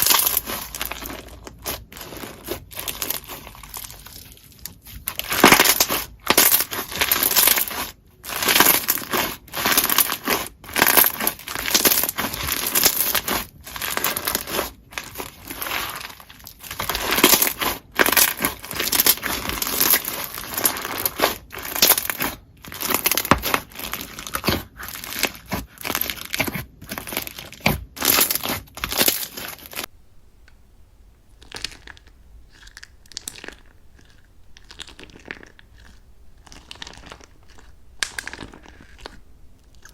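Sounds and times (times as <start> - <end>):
slime squeezed crackling: 0.0 - 29.9, 31.4 - 39.9.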